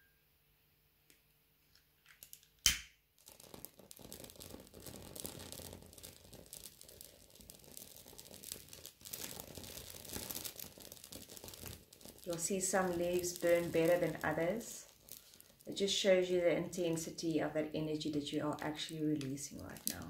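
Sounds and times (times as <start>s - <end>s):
burning leaf crackling: 3.2s - 20.0s.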